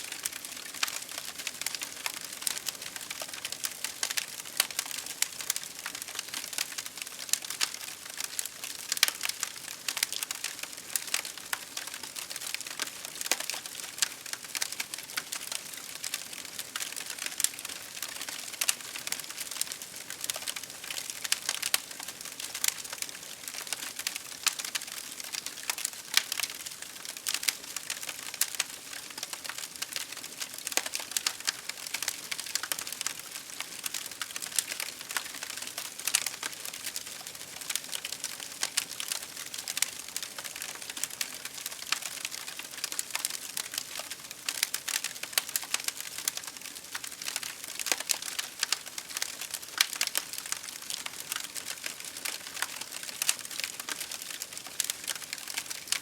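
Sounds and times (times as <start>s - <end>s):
campfire crackling and popping: 0.1s - 56.0s.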